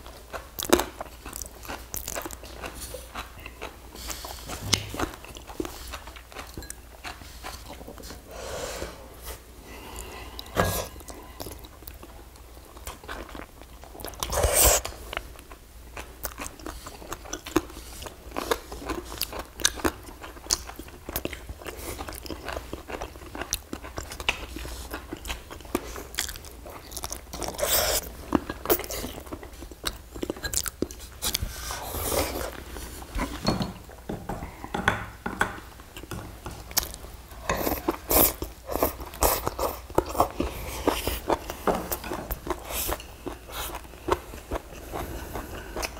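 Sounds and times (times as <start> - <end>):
people chewing and smacking: 0.0 - 8.3, 9.7 - 34.8, 35.4 - 45.9.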